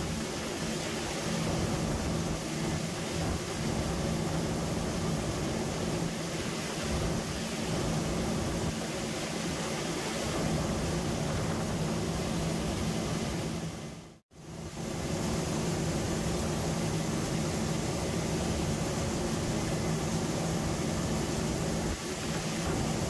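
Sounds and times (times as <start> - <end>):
constant hiss: 0.0 - 23.0
mechanical hum with low tones: 0.0 - 23.0.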